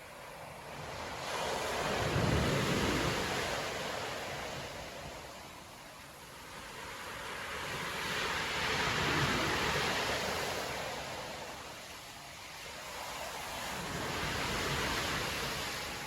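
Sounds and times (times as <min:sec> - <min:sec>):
surf waves crashing on beach: 0:00.0 - 0:16.0.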